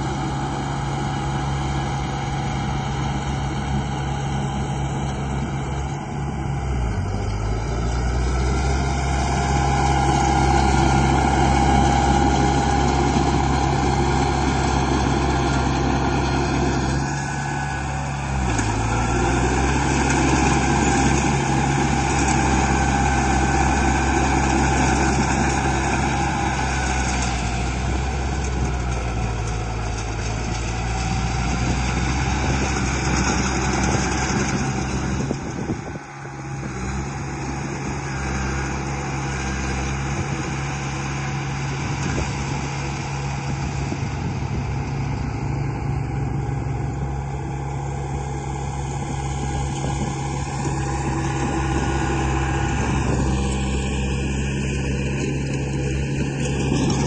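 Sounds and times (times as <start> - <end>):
construction machinery engine drone: 0.0 - 57.0.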